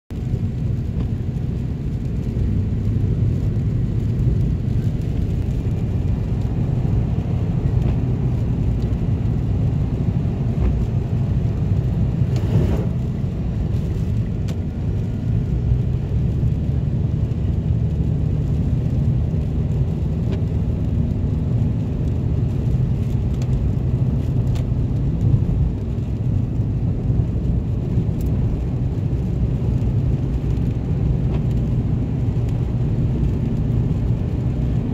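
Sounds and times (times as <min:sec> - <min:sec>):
vehicle cabin rumble on highway: 0:00.1 - 0:34.9.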